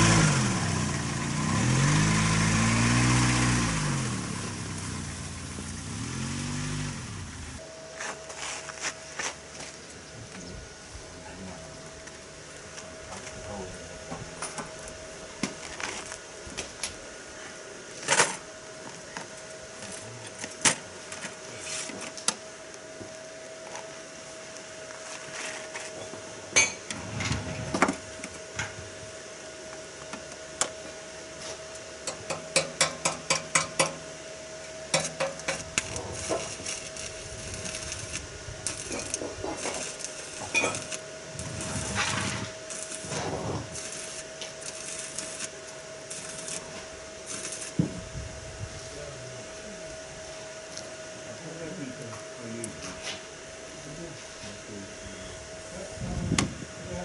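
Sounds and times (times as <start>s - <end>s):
faint steady hum: 4.2s - 57.0s.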